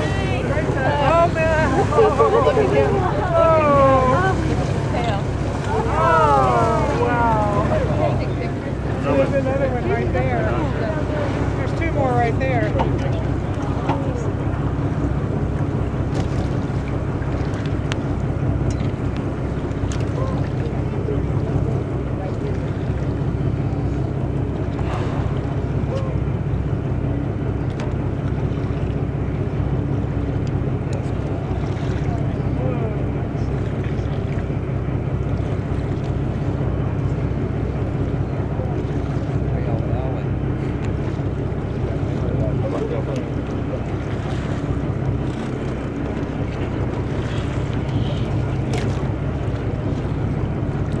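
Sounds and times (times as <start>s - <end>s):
boat engine droning: 0.0s - 51.0s.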